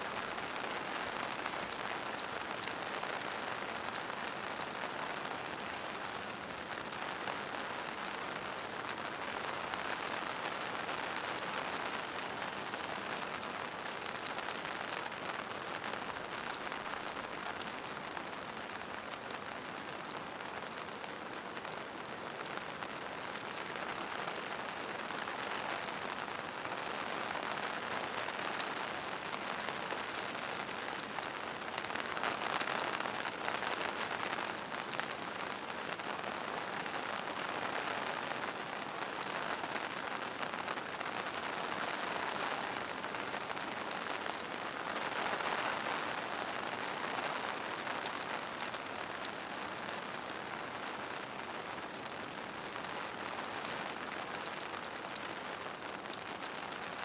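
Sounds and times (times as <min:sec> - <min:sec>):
rain on foliage and rocks: 0:00.0 - 0:57.0.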